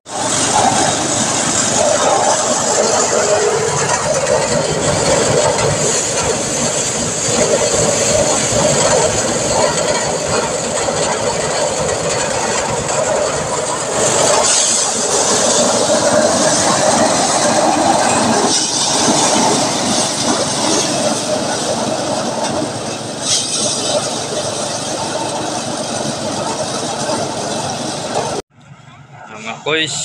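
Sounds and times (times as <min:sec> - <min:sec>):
engine-driven machinery rattling: 0:00.1 - 0:30.0.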